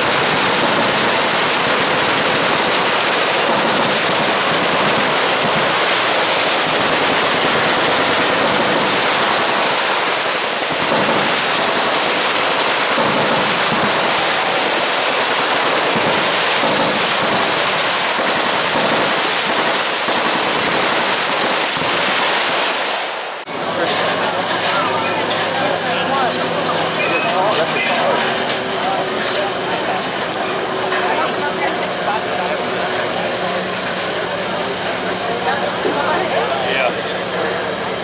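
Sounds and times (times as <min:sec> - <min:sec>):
machine-gun fire: 0:00.0 - 0:38.0.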